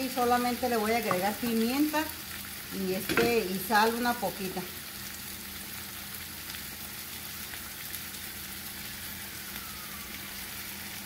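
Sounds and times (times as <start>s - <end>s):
meat sizzling in frying pan: 0.0s - 11.0s.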